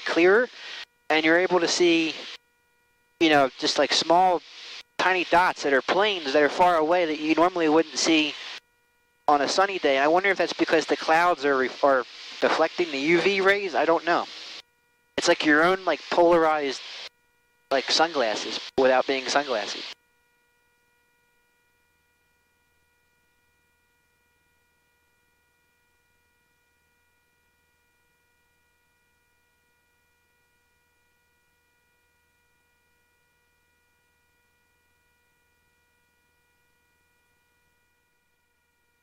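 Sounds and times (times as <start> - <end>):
faint electrical hum: 0.0 - 39.0.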